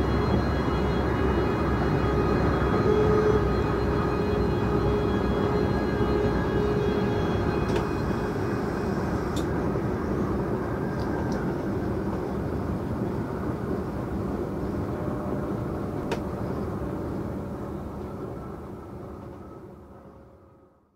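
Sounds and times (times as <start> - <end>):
electric train rumbling: 0.0 - 20.9.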